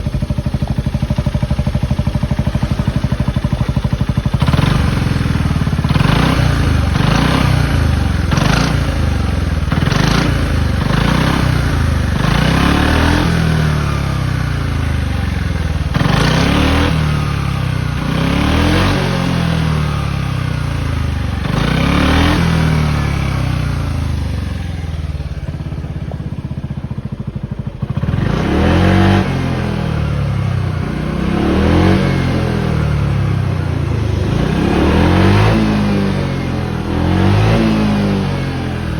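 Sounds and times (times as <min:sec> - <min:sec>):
scooter engine idling: 0:00.0 - 0:38.9
scooter engine revving: 0:00.0 - 0:38.9.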